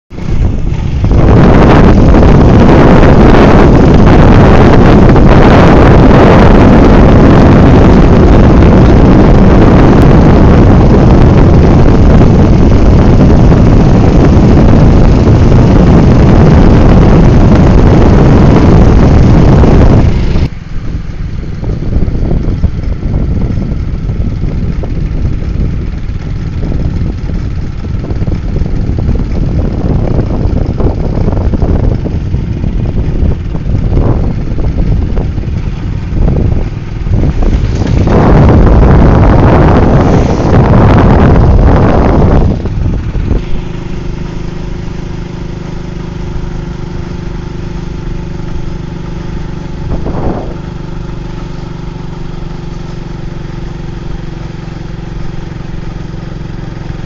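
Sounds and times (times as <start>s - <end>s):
vehicle engine running: 0.0s - 57.0s
wind buffeting on microphone: 0.1s - 57.0s.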